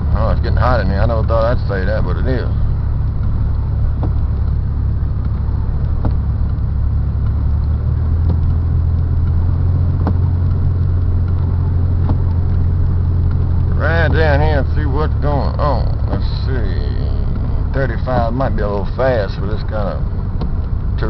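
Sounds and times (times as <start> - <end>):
engine and tyre rumble: 0.0 - 21.0
faint clicks: 2.0 - 21.0.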